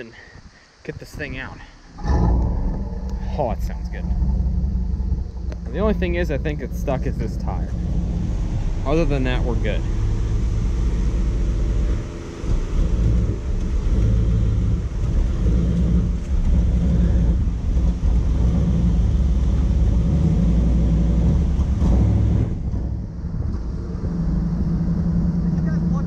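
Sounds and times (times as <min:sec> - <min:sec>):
car engine revving: 0:01.5 - 0:26.0.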